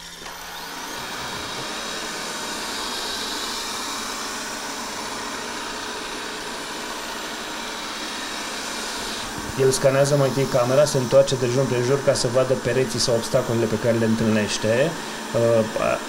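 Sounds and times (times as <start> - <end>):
robot vacuum running: 0.0 - 16.0.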